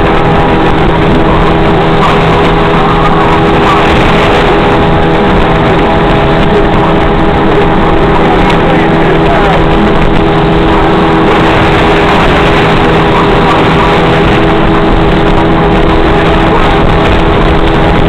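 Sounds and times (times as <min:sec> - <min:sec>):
motorboat engine running: 0:00.0 - 0:18.0
water rushing: 0:00.0 - 0:18.0
wind rushing: 0:00.0 - 0:18.0.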